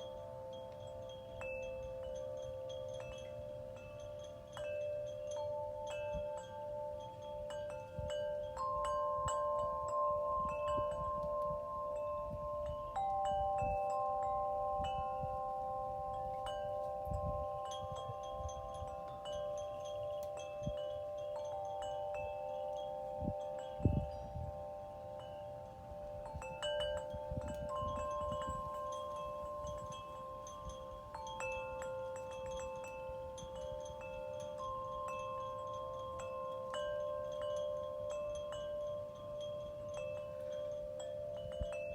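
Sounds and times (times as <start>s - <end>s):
wind chimes ringing: 0.0s - 41.9s.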